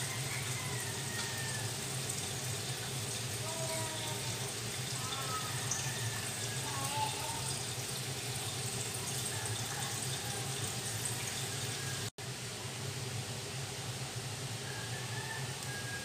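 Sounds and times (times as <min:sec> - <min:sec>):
gas burner flame hissing: 0:00.0 - 0:16.0.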